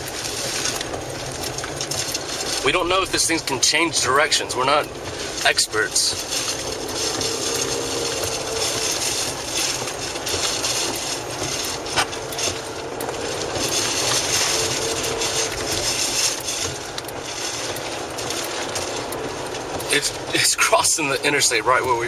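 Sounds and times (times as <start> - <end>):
faint engine hum: 0.0 - 22.0
road and wind noise in car: 0.0 - 22.0.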